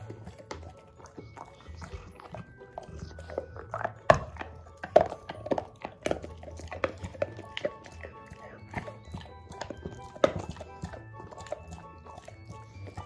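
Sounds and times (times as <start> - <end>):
dog crunching a hard chew: 0.0 - 13.0.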